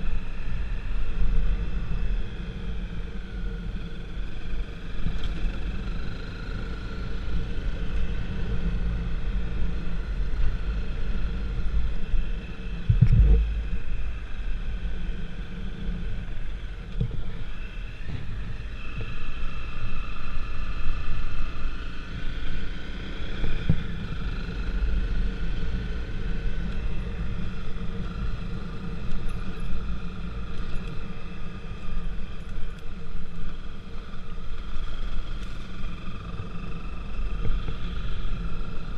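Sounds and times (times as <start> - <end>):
vehicle ride rumble: 0.0 - 38.9
vehicle whine: 0.0 - 38.9.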